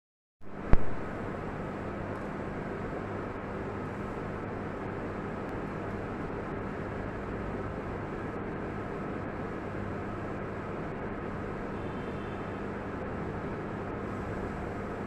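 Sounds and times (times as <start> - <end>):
low electrical hum: 0.4 - 15.0.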